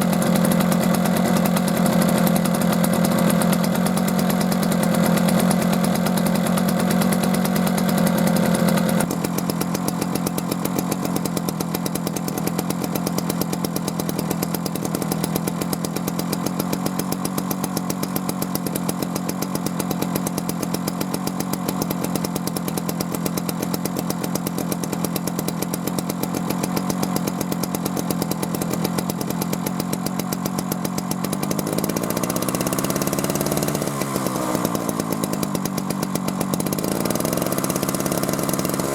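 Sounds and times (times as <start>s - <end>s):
two-stroke engine running: 0.0s - 38.9s.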